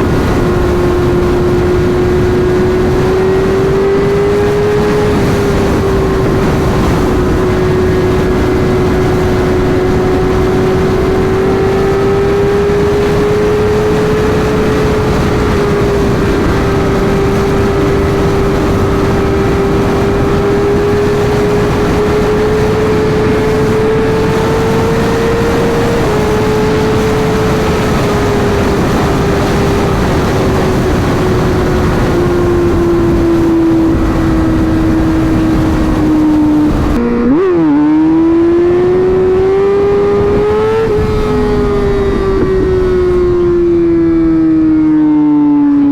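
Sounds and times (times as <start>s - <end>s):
motorcycle engine at high revs: 0.0s - 45.9s
wind rush: 0.0s - 45.9s.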